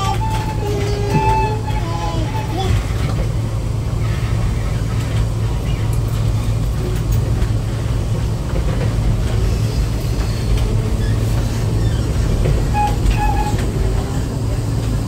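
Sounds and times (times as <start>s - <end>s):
tram rumbling on rails: 0.0s - 15.0s.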